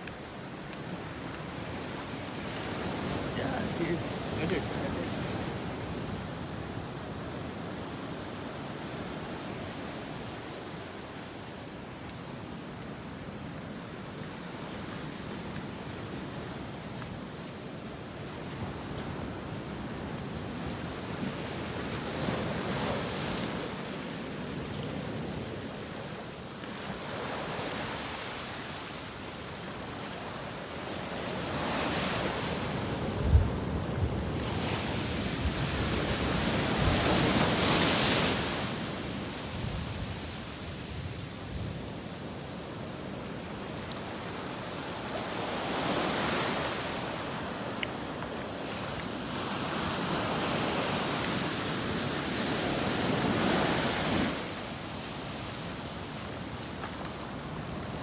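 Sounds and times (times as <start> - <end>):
sea waves washing ashore: 0.0 - 58.0.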